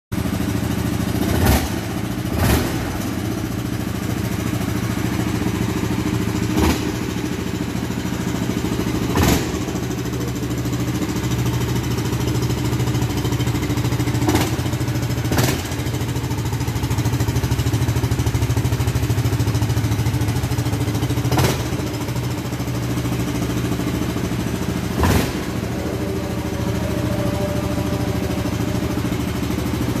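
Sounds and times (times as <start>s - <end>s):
engine idling: 0.1s - 30.0s.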